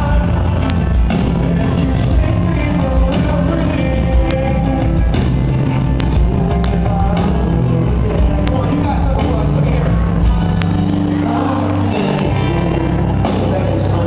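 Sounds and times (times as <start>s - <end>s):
person singing: 0.0s - 14.0s
rock band playing live: 0.0s - 14.0s.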